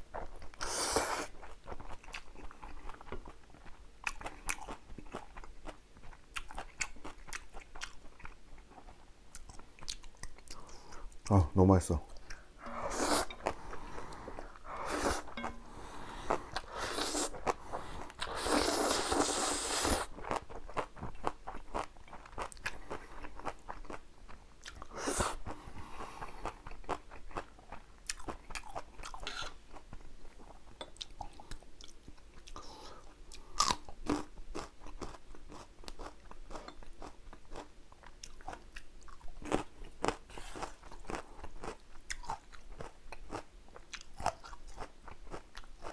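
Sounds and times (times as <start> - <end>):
crunchy eating and chewing: 0.1 - 11.3, 12.1 - 45.9.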